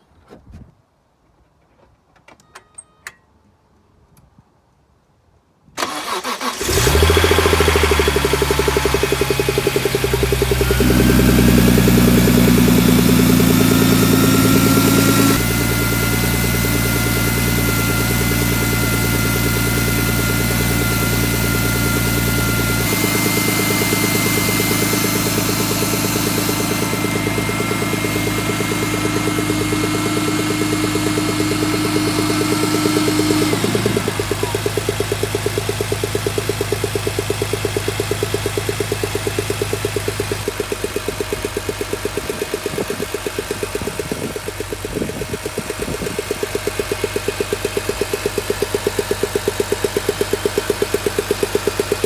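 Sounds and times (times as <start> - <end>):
car engine idling: 6.7 - 52.0.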